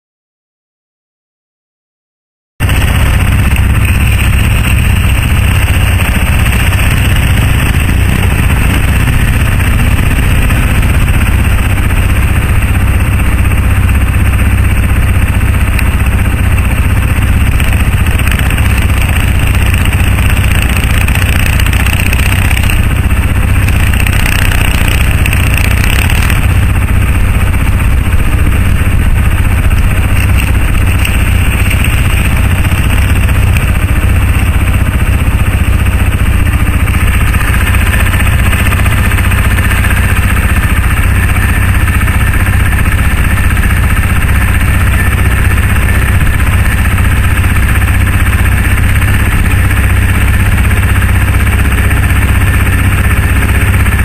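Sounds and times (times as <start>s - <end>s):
atv engines running: 2.6s - 54.0s.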